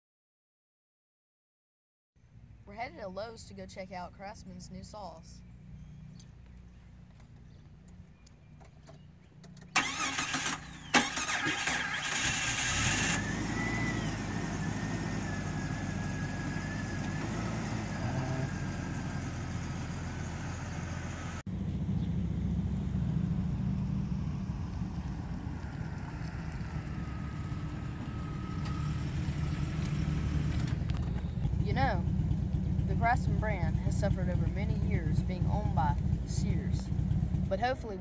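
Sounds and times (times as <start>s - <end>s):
faint engine whine: 2.2s - 38.0s
car engine starting and idling: 7.4s - 38.0s.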